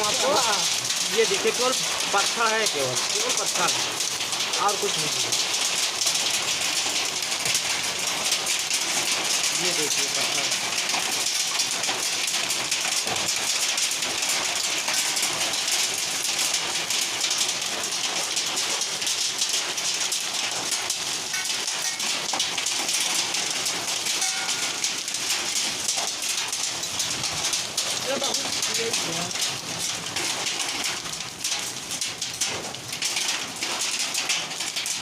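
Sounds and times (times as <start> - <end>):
hail and rain pelting: 0.0 - 35.0.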